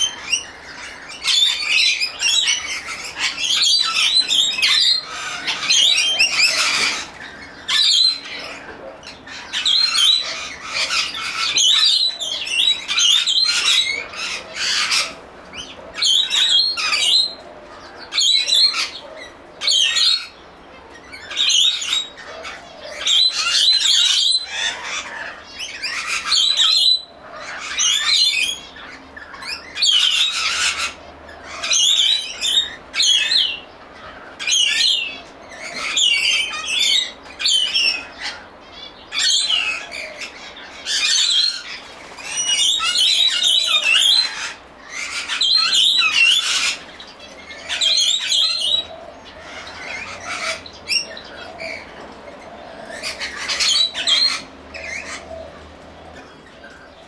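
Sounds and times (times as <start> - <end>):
small songbirds chattering: 0.0 - 57.0.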